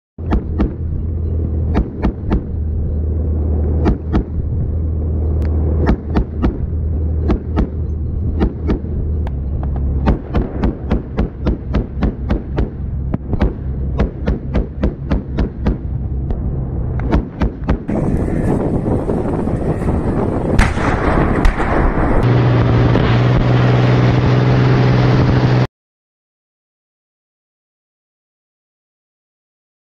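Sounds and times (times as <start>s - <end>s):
armoured vehicle engine drone: 0.2s - 25.7s.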